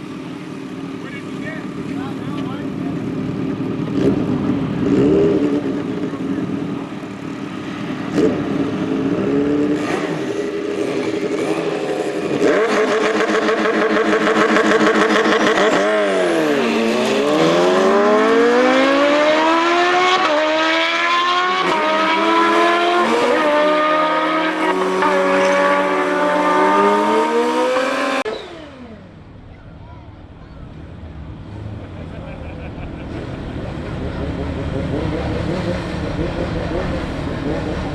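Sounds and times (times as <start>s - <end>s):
motorcycle engine accelerating: 0.0s - 29.6s, 30.4s - 37.9s.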